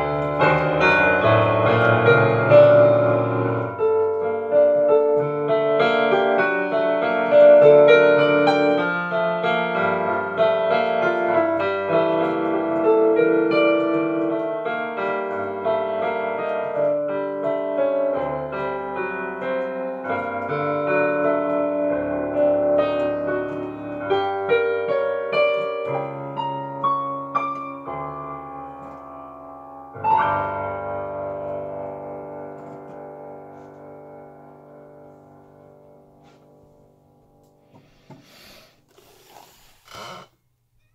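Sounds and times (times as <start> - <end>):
solo piano: 0.0 - 38.5.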